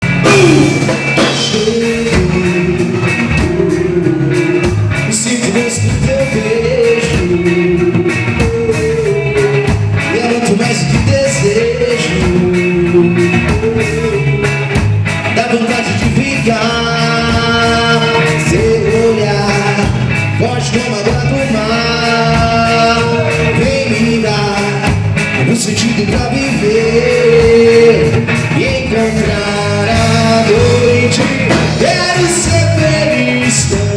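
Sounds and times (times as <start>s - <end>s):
rock song with singer and band: 0.0s - 33.9s
steady drum beat: 0.0s - 33.9s.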